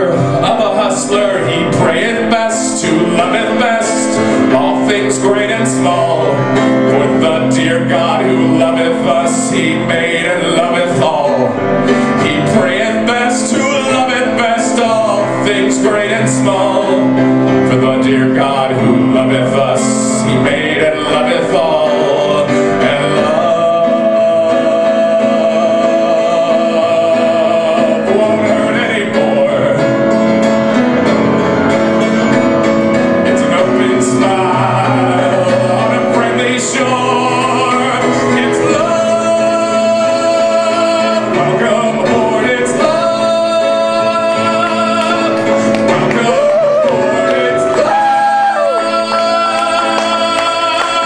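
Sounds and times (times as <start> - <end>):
man singing long notes: 0.0 - 30.8, 31.5 - 51.0
piano accompaniment: 0.0 - 51.0.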